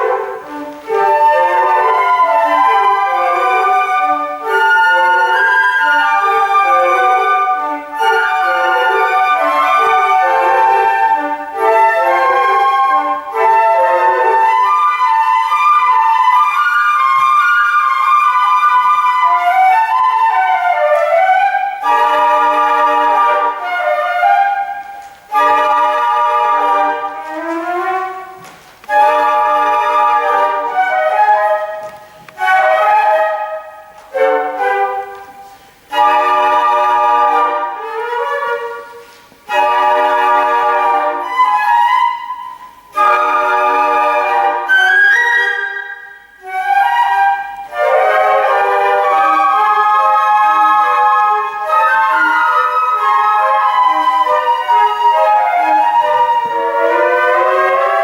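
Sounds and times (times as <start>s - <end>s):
flute ensemble playing chords: 0.0s - 58.0s.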